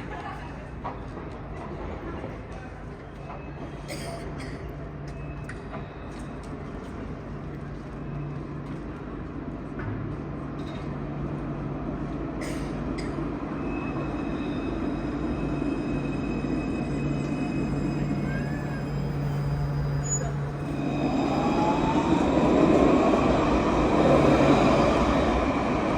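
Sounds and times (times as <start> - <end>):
tram rolling and motor hum: 0.0 - 25.9.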